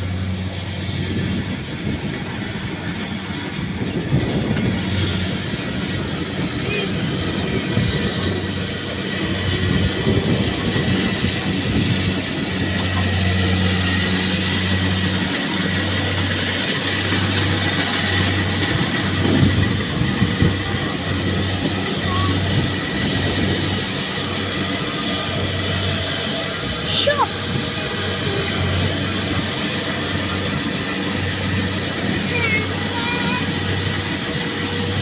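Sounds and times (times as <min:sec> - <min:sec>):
broad mechanical noise: 0:00.0 - 0:35.0
combine harvester engine hum: 0:00.0 - 0:35.0.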